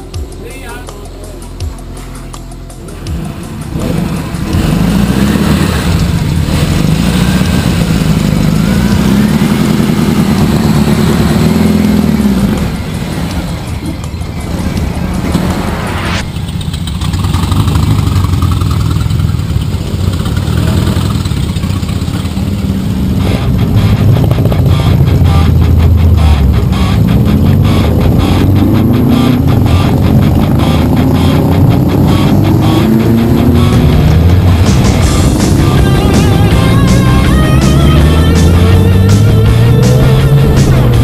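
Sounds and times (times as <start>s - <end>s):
motor trike engines revving: 0.0s - 1.7s, 2.6s - 41.0s
rising whine: 1.4s - 19.6s, 20.2s - 41.0s.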